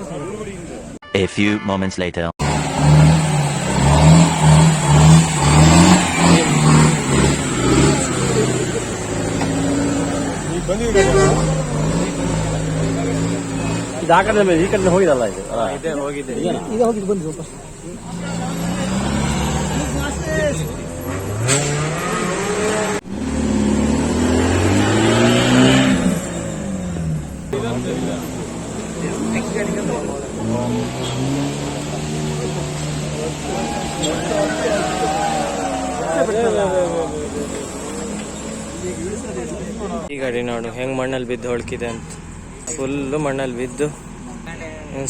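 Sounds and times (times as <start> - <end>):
jeep engine revving: 2.4 - 45.0.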